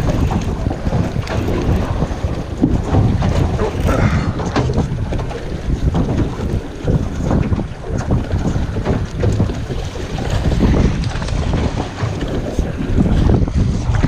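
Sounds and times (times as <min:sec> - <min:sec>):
choppy water against hull: 0:00.0 - 0:14.0
wind on microphone: 0:00.0 - 0:14.0.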